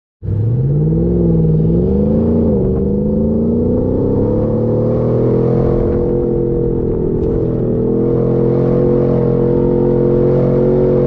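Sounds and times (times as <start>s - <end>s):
engine revving under load: 0.2s - 11.0s.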